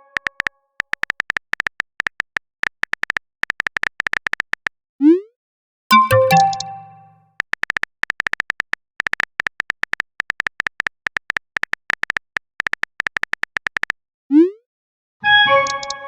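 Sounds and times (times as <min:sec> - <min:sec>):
phone keyboard typing clicks: 0:00.2 - 0:04.7, 0:05.9 - 0:14.0, 0:15.6 - 0:16.0.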